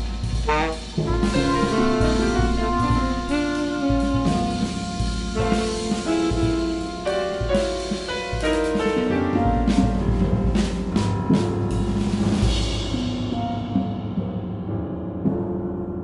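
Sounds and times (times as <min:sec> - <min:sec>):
free jazz quartet: 0:00.0 - 0:14.1.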